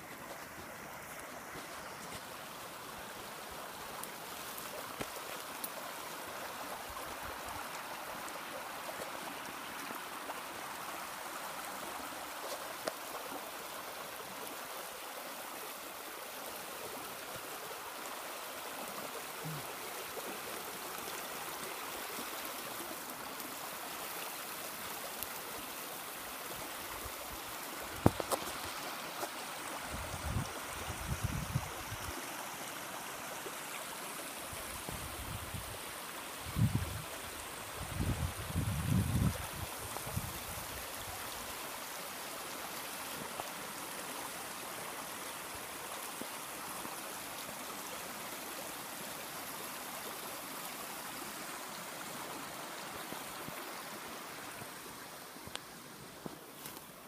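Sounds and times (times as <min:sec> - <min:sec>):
rocky stream rushing: 0:00.0 - 0:57.0.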